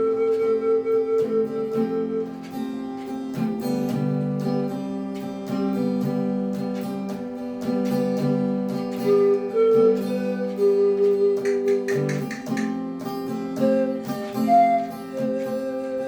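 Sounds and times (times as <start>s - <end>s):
pan flute melody: 0.0s - 6.4s, 7.3s - 16.0s
strummed acoustic guitar: 0.0s - 16.0s.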